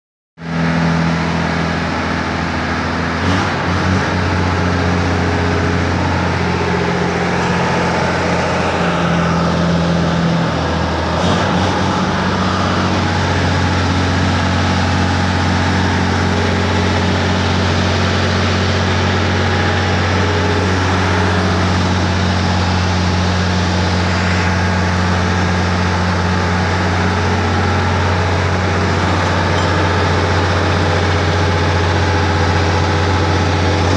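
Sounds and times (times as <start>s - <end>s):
pickup engine running: 0.7s - 33.9s.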